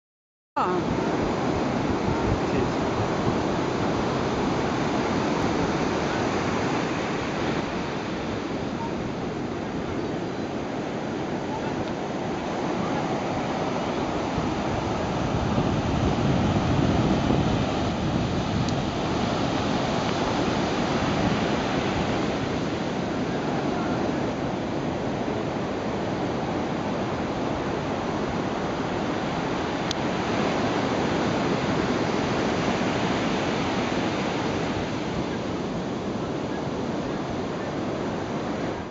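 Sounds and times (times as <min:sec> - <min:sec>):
ocean surf breaking on beach: 0:00.6 - 0:38.9.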